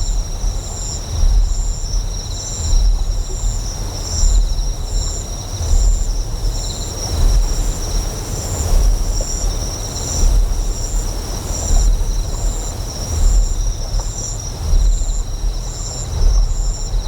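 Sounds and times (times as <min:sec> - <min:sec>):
deep generator hum: 0:00.0 - 0:17.0
insects chirping: 0:00.0 - 0:17.0.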